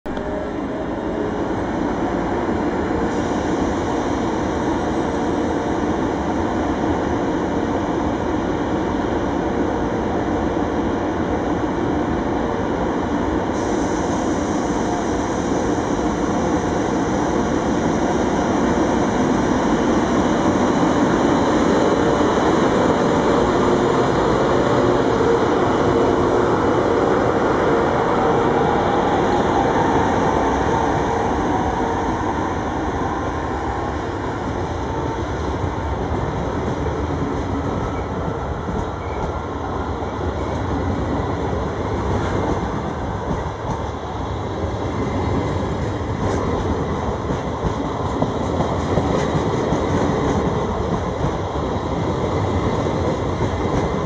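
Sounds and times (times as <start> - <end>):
electric locomotive rumbling on rails: 0.0 - 54.0.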